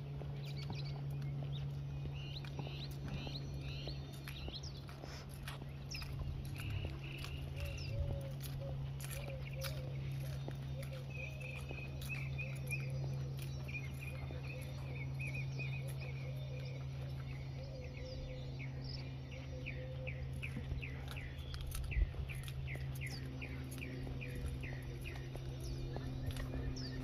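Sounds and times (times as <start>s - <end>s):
small birds chirping and singing: 0.0s - 27.0s
steady low hum: 0.0s - 27.0s.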